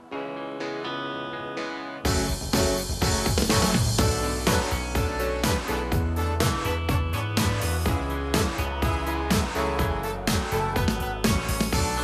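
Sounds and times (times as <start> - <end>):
pop backing track: 0.0 - 12.0
regular drum beat: 2.1 - 12.0
steady bass: 2.1 - 12.0.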